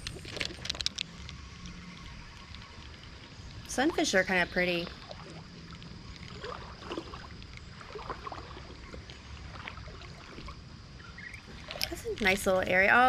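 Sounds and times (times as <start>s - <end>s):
creek water running: 0.0s - 13.0s
small water splashes and gurgles: 0.0s - 13.0s.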